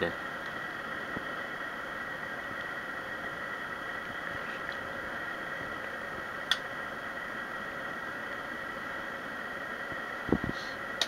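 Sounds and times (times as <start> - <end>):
high whine and hiss: 0.0 - 11.0.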